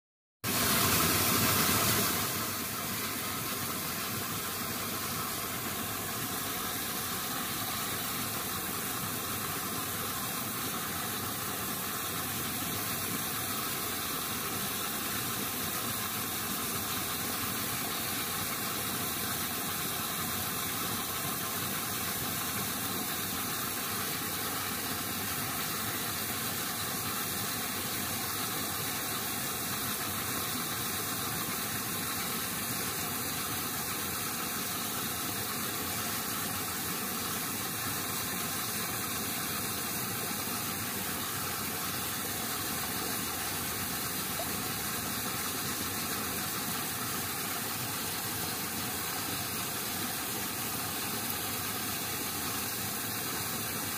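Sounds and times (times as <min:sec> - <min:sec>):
steady hissing noise: 0:00.4 - 0:53.9.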